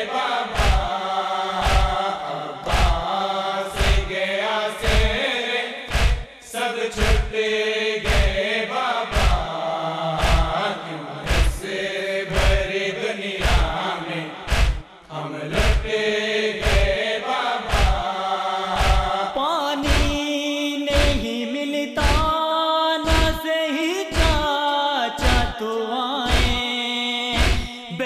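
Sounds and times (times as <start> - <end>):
men chanting in chorus: 0.0 - 28.0.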